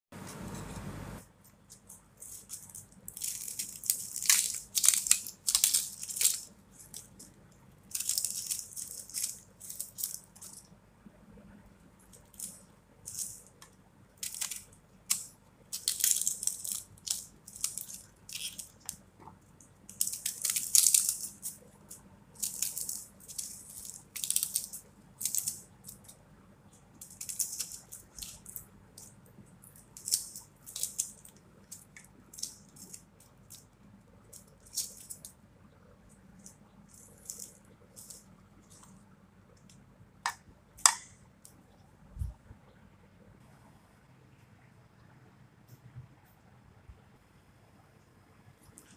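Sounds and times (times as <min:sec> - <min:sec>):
onion skins crackling: 0:00.3 - 0:10.8, 0:12.1 - 0:41.2.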